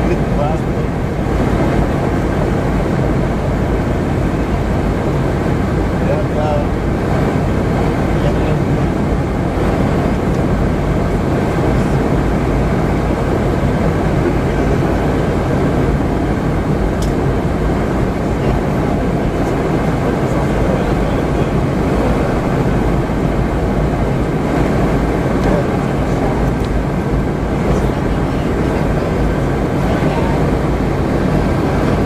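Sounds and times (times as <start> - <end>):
airplane cabin airflow and engines: 0.0 - 32.0
constant low drone: 0.0 - 32.0.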